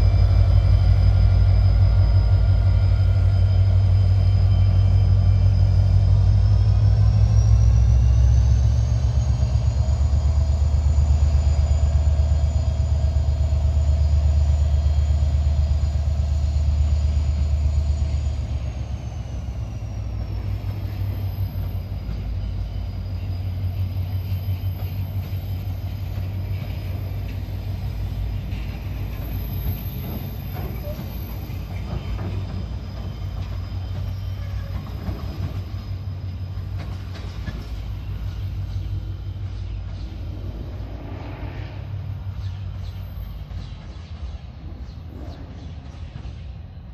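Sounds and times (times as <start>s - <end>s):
carriages rolling on rails: 0.0s - 46.9s
locomotive engine with high whine: 0.0s - 46.9s.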